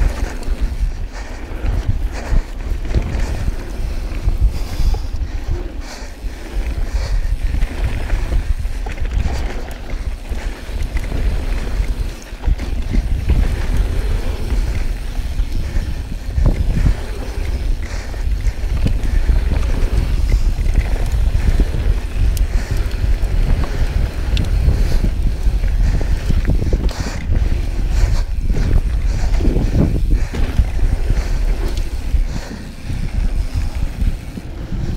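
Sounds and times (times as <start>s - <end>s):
bike clicks and knocks: 0.0s - 34.9s
mountain bike rumble and rattle: 0.0s - 34.9s
wind buffeting microphone: 0.0s - 34.9s.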